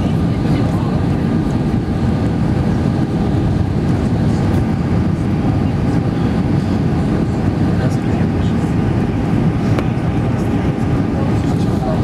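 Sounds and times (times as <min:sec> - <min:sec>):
jet engines rumbling in cabin: 0:00.0 - 0:12.0
rushing air: 0:00.0 - 0:12.0.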